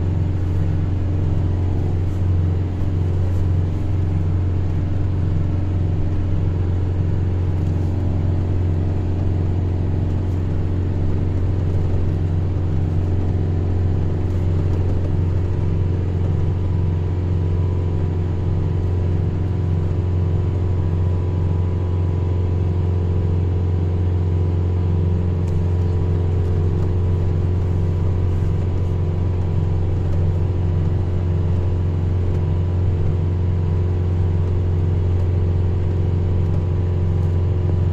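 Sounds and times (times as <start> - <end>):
vehicle engine droning: 0.0 - 37.9.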